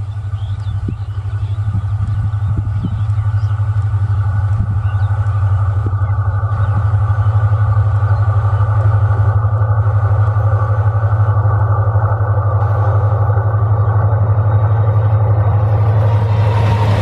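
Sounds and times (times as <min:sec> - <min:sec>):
diesel locomotive engine hum: 0:00.0 - 0:17.0
rushing noise of train: 0:00.0 - 0:17.0.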